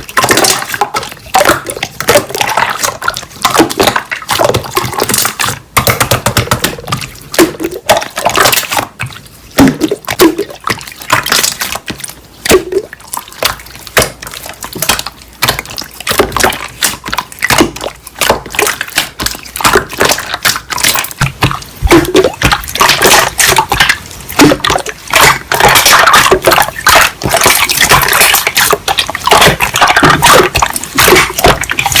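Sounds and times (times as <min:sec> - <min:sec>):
slime squelching by hand: 0:00.0 - 0:32.0.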